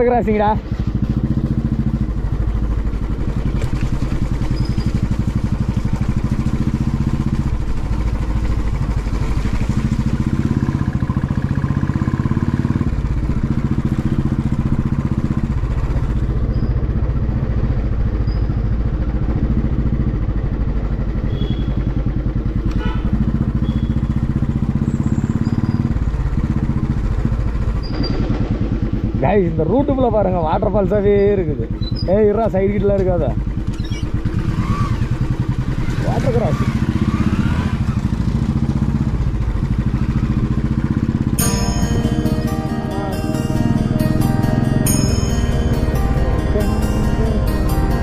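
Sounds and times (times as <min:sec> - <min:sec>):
motorcycle engine running: 0:00.0 - 0:48.0
road rumble: 0:00.0 - 0:48.0.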